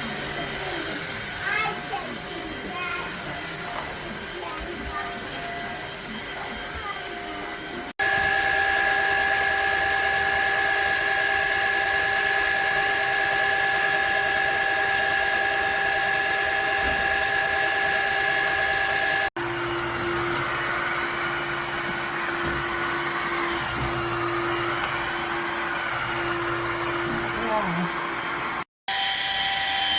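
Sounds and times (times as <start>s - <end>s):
vacuum motor whining: 0.0s - 29.9s.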